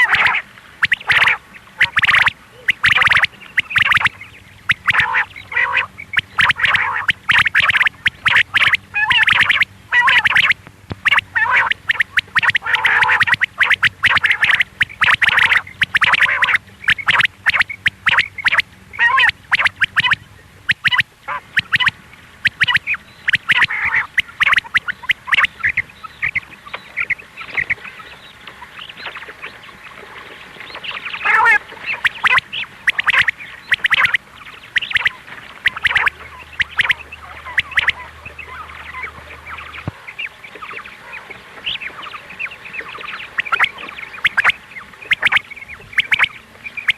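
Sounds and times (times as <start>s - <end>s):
quail calling: 0.0s - 29.7s, 30.6s - 46.9s.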